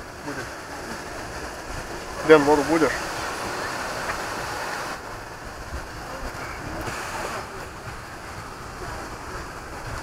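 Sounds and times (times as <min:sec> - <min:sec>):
sea surf washing on shore: 0:00.0 - 0:10.0
faint voices: 0:00.2 - 0:10.0.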